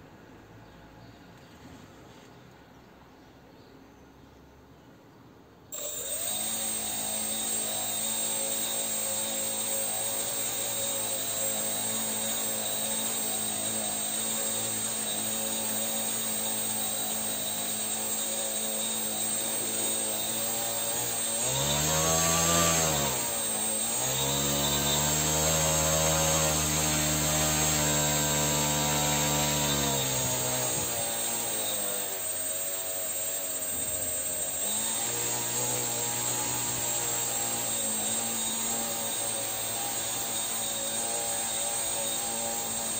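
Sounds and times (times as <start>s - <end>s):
electric motor spinning propeller whine: 5.8s - 42.9s.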